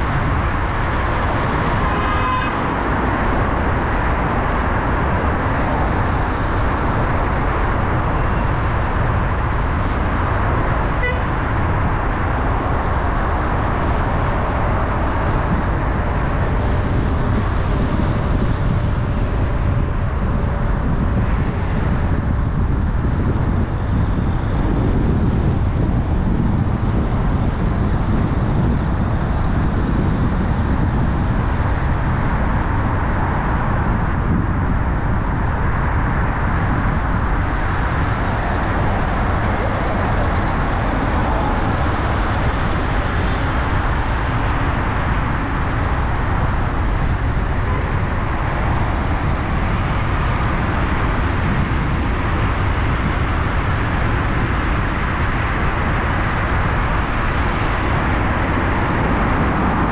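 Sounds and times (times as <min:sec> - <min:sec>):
car engine hum: 0:00.0 - 0:59.9
tyre road noise: 0:00.0 - 0:59.9.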